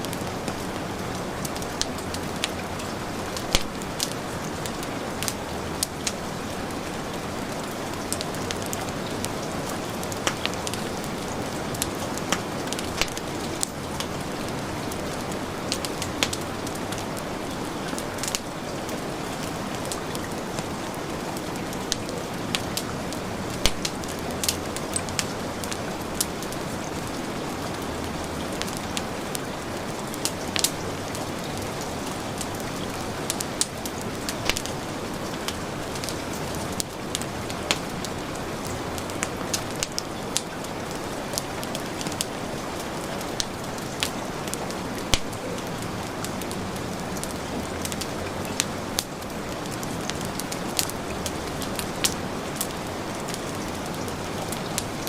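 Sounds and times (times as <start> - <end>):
heavy rain: 0.0 - 55.0
wood fire crackling: 0.0 - 55.0.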